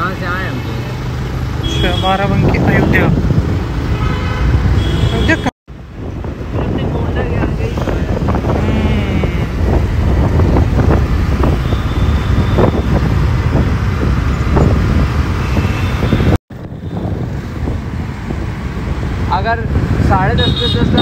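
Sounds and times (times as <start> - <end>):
other vehicles: 0.0 - 21.0
wind and road noise: 0.0 - 21.0.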